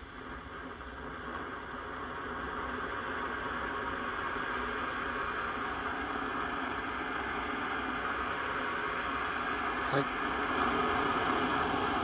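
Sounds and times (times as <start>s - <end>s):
pressure burner hissing: 0.0s - 12.0s.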